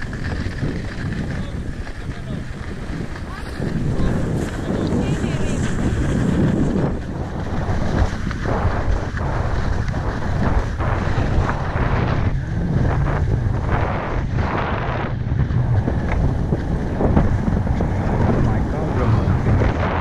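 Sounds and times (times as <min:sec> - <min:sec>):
skis hissing and scraping on snow: 0:00.0 - 0:20.0
wind buffeting microphone: 0:00.0 - 0:20.0.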